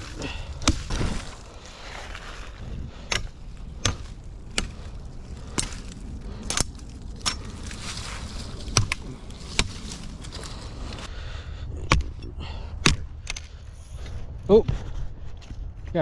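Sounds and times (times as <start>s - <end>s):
dry sticks snapping: 0.0s - 11.1s, 11.8s - 13.7s.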